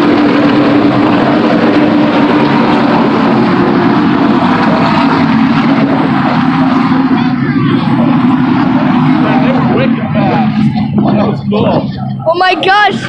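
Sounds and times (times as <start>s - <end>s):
racing car engines droning: 0.0s - 13.0s.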